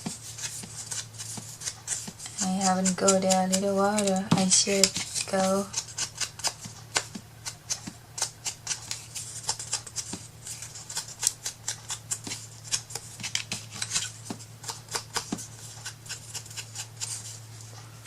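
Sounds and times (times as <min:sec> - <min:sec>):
scissors snipping: 0:00.0 - 0:17.2.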